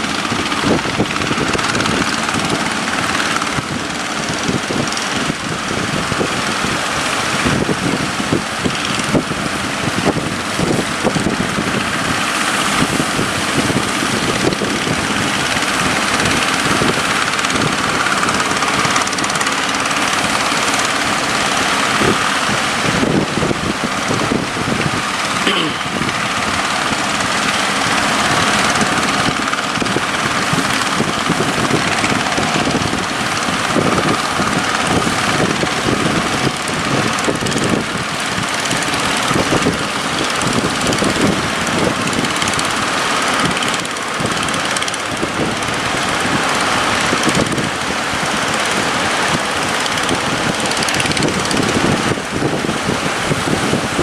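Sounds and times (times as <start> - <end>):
boat engine running: 0.0 - 54.0
rushing water: 0.0 - 54.0
wind buffeting microphone: 0.0 - 54.0.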